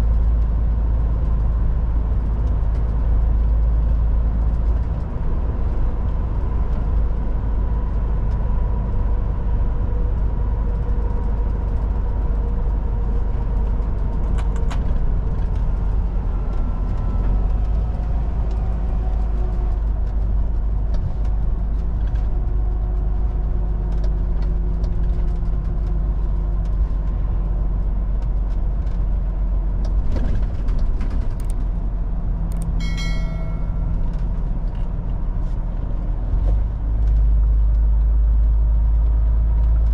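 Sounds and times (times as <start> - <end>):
heavy truck engine and tyre rumble: 0.0 - 39.9.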